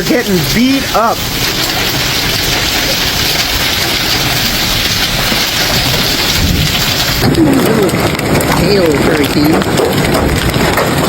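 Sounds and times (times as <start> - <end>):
hail clattering on cars and ground: 0.0 - 11.0.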